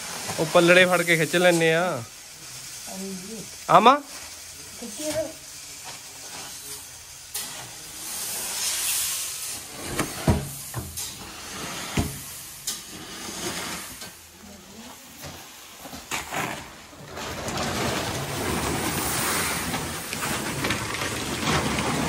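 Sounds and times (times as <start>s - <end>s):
grain hissing and rustling: 0.0s - 22.0s.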